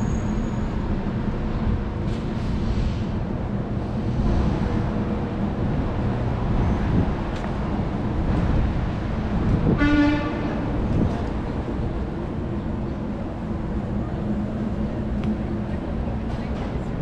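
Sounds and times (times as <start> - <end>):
city street noise: 0.0 - 17.0.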